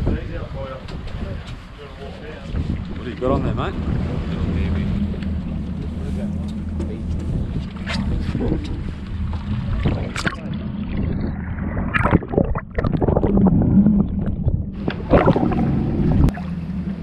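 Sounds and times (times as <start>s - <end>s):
wind noise: 0.0s - 1.7s, 2.4s - 6.1s, 6.9s - 16.3s
boat engine droning: 0.0s - 17.0s
water wash: 0.0s - 17.0s.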